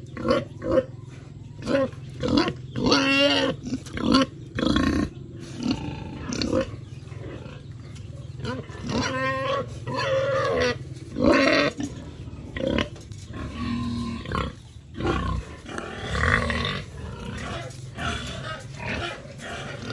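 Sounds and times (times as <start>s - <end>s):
pigs squealing and grunting: 0.0s - 19.9s.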